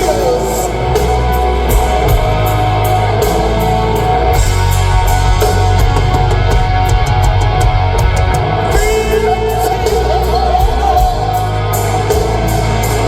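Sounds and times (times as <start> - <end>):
bass: 0.0 - 13.0
drums: 0.0 - 13.0
electric guitar: 0.0 - 13.0.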